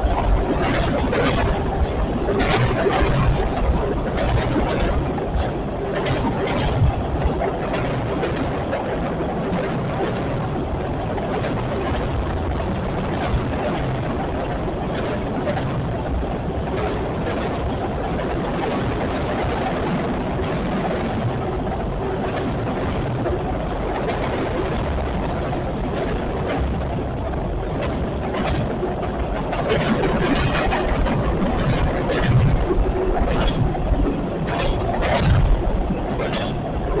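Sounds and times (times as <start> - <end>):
train wheels rumbling on rails: 0.0 - 37.0
wheels clanking over rail joints: 0.0 - 37.0.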